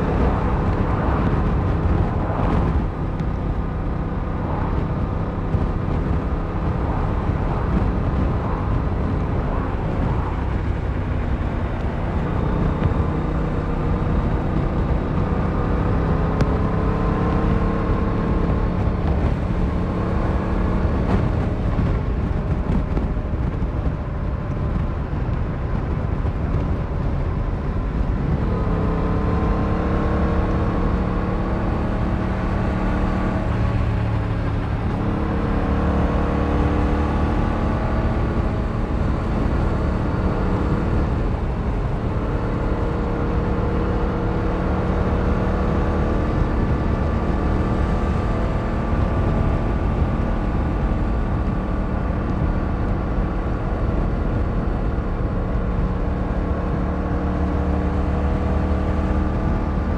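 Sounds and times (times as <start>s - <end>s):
wind rushing: 0.0s - 56.1s.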